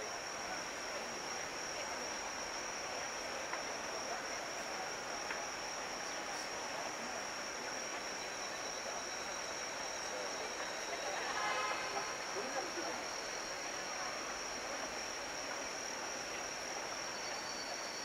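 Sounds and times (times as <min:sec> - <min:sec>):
night insects singing: 0:00.0 - 0:18.0.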